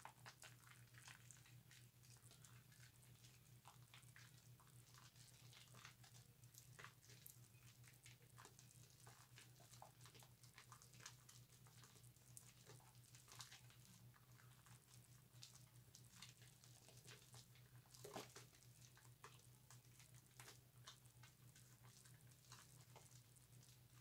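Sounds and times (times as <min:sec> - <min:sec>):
bar soap being lathered: 0:00.0 - 0:24.0.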